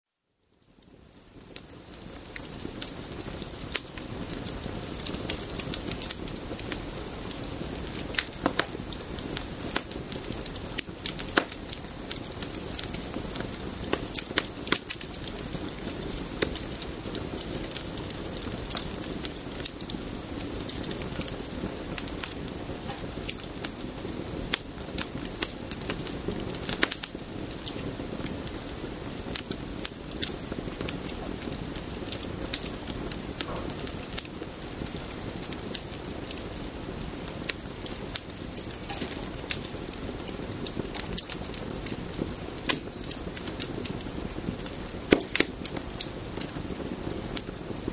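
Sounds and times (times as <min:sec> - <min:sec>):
campfire crackling: 0:00.4 - 0:47.9.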